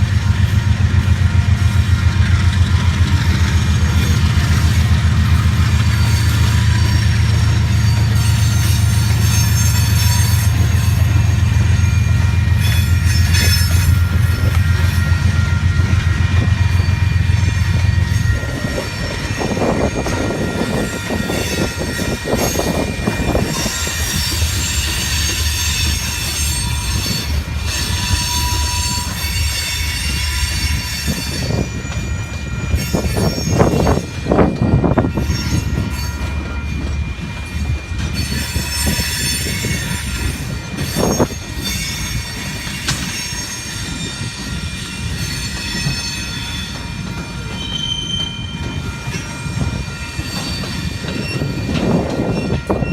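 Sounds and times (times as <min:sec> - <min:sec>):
freight train rumbling past: 0:00.0 - 0:52.9
steel wheels squealing on rails: 0:00.0 - 0:52.9
train clanks and knocks: 0:00.0 - 0:52.9.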